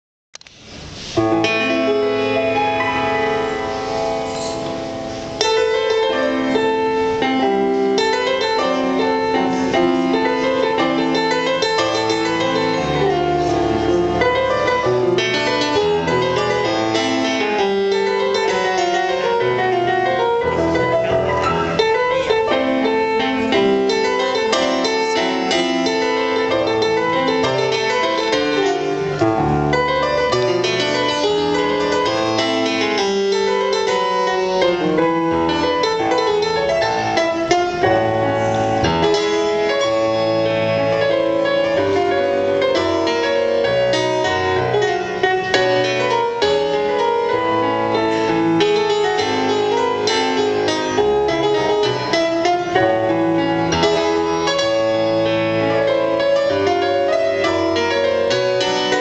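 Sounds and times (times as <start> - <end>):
grand piano chords and passages: 0.4 - 59.0.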